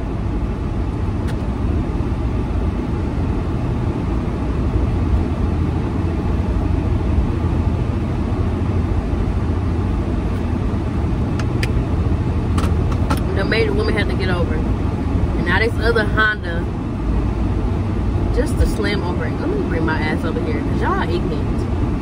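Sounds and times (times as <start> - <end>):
car cabin road and engine rumble: 0.0 - 22.0.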